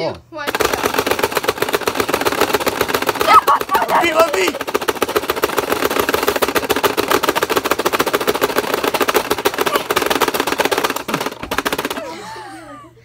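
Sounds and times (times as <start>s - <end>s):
toy game mechanism clicking: 0.5s - 12.2s.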